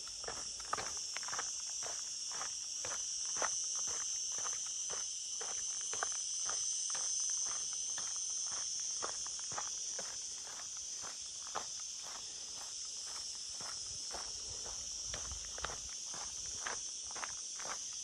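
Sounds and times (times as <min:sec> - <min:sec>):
footsteps walking: 0:00.0 - 0:18.0
high-pitched insect chorus: 0:00.0 - 0:18.0.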